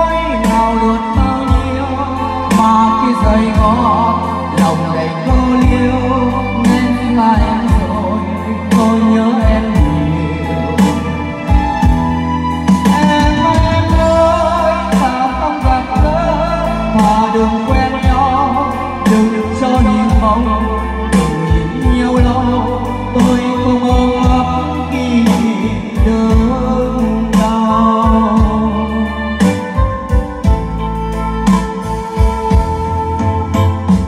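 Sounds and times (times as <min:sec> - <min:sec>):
drums: 0:00.0 - 0:34.0
heavy bass line: 0:00.0 - 0:34.0
keyboard melody: 0:00.0 - 0:34.0.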